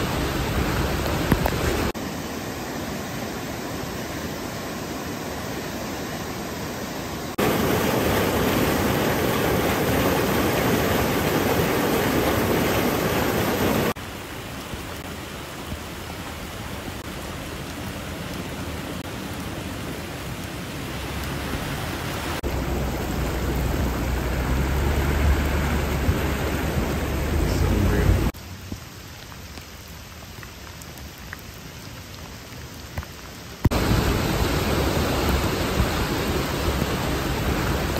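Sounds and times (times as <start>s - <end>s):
floodwater rushing: 0.0s - 37.9s
rain falling: 0.0s - 37.9s.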